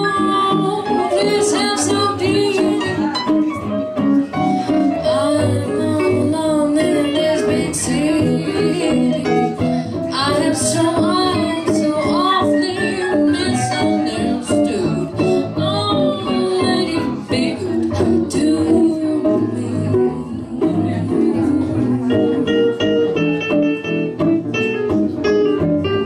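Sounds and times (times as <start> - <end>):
electric keyboard playing: 0.0 - 26.0
guitar playing: 0.0 - 26.0.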